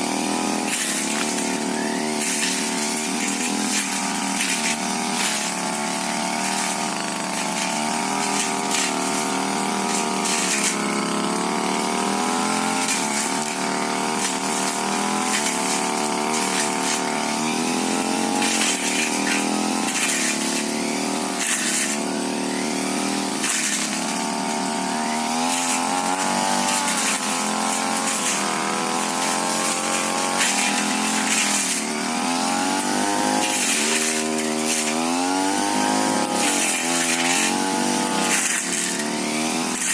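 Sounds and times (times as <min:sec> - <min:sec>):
brush cutter running at high revs: 0:00.0 - 0:39.9.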